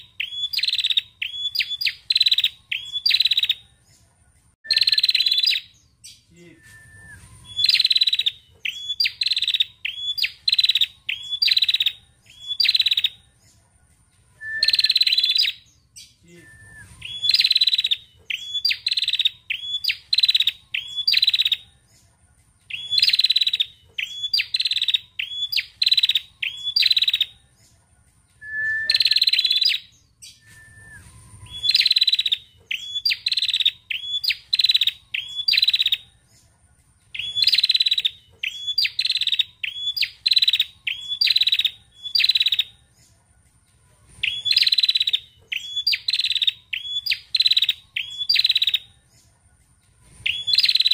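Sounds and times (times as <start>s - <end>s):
bird chirping: 0.0s - 50.9s.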